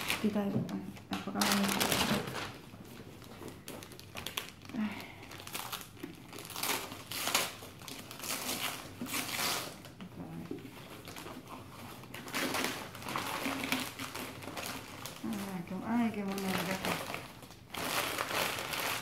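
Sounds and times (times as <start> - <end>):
wrapping paper crinkling and tearing: 0.0 - 19.0.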